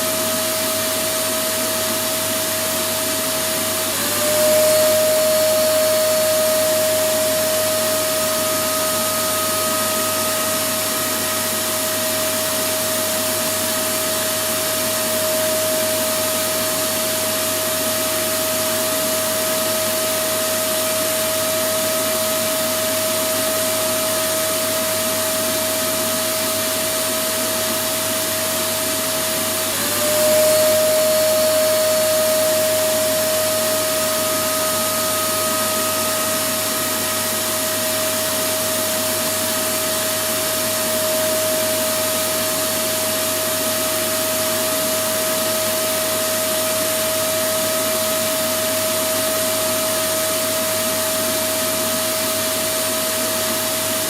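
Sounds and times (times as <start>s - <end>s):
vacuum cleaner motor running: 0.0s - 54.0s.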